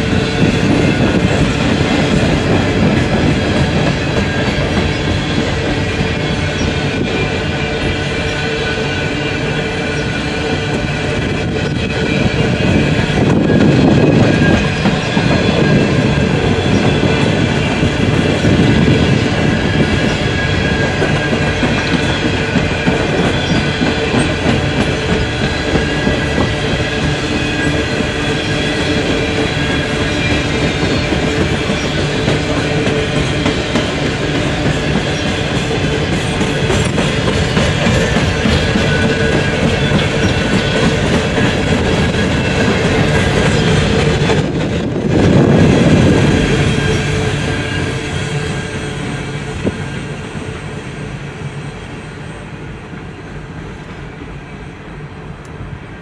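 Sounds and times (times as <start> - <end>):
freight train wheels clattering on rails: 0.0 - 56.0.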